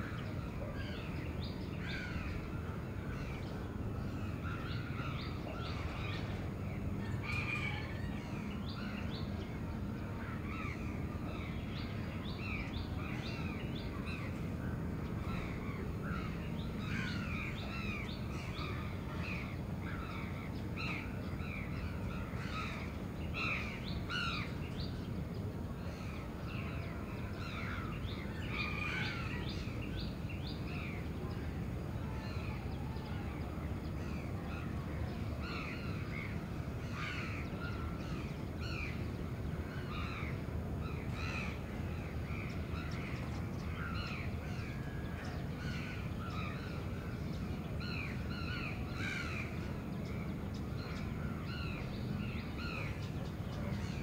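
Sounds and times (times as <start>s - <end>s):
low city hum: 0.0s - 54.0s.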